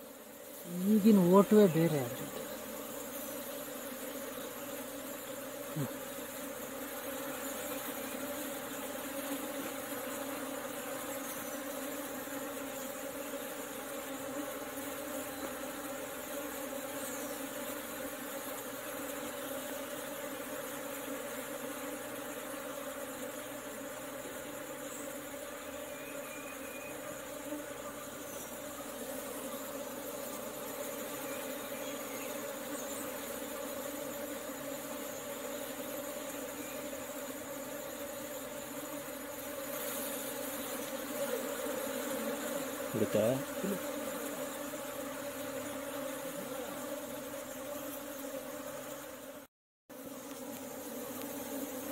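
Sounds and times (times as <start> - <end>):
honeybees buzzing: 0.0 - 51.9.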